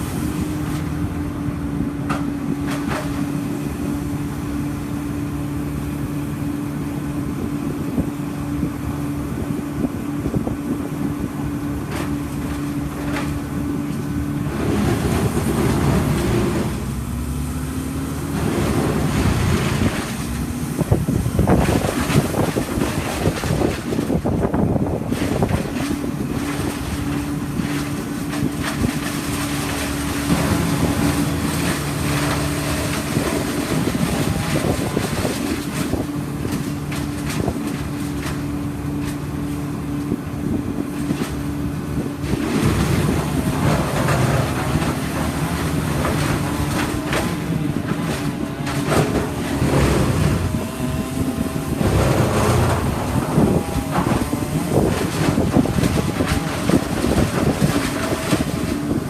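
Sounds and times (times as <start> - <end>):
wind noise on microphone: 0.0 - 17.3, 18.3 - 59.0
engine running: 0.0 - 59.0.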